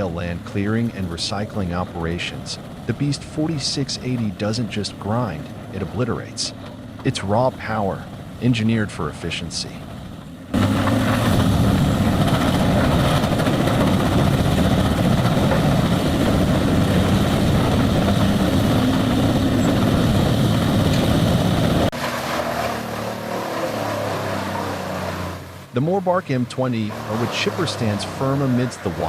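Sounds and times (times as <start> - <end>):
wood chipper engine drone: 0.0 - 29.0.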